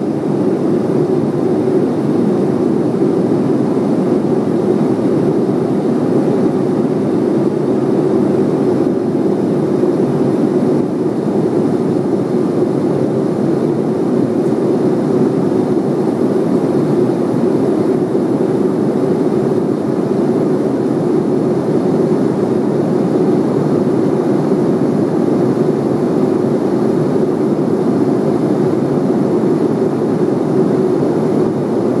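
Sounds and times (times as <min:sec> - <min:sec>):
aircraft cabin engine noise: 0:00.0 - 0:32.0.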